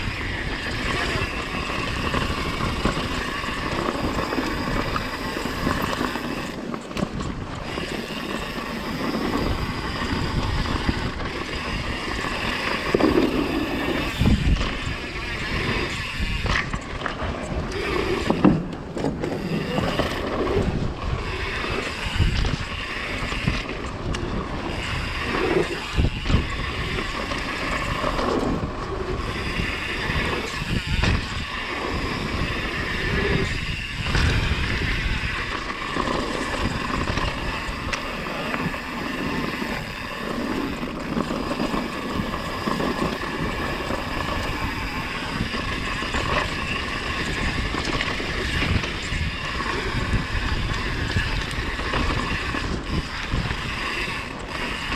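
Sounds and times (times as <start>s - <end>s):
bike rattle: 0.0s - 54.9s
wind rushing over microphone: 0.0s - 54.9s.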